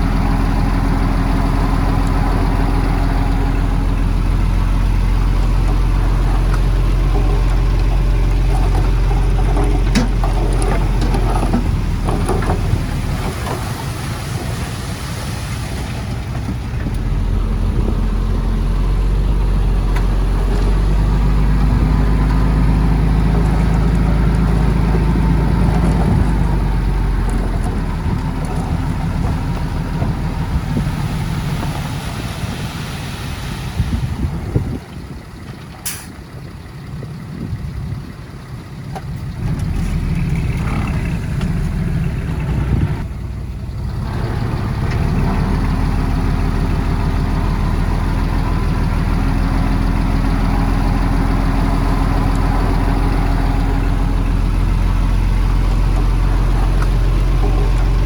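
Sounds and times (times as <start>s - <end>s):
diesel earthmoving machinery running: 0.0s - 58.0s.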